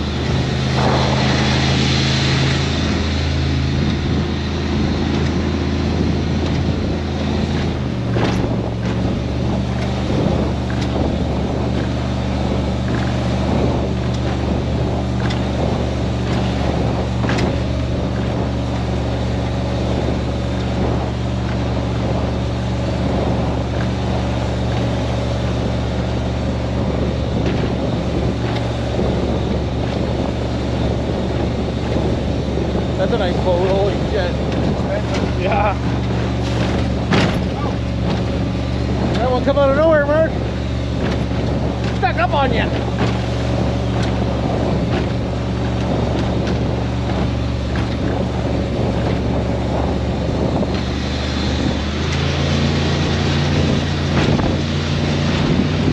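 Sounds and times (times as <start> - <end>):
boat engine running: 0.0 - 55.9
wind and water rushing: 0.0 - 55.9.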